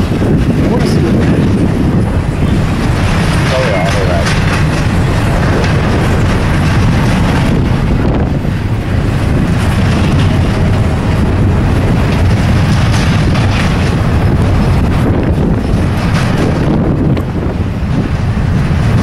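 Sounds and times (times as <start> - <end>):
passing freight train: 0.0 - 19.0
wind buffeting microphone: 0.0 - 19.0.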